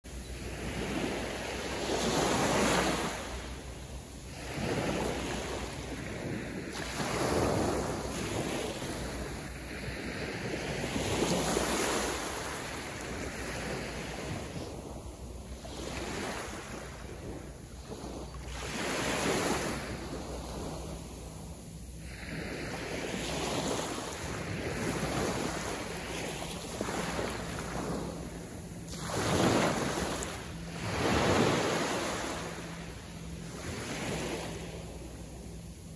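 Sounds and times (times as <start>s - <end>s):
small waves breaking on beach: 0.1s - 35.9s
wind rumble on microphone: 0.1s - 35.9s.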